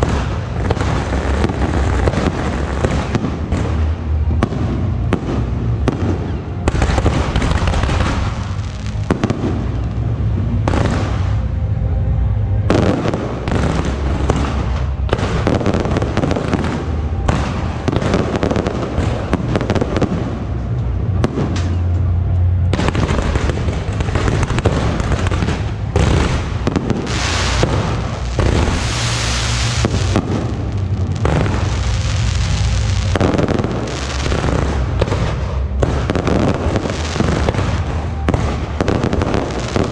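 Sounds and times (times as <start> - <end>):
fireworks crackling and bursting: 0.0 - 39.9
low rumble: 0.0 - 39.9.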